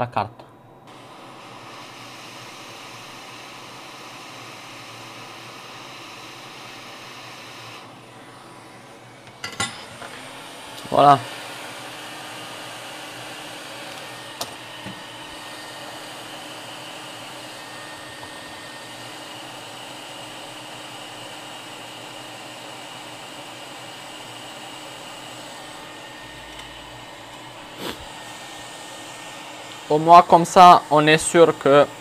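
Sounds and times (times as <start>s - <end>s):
electric blower blowing: 0.8s - 32.0s.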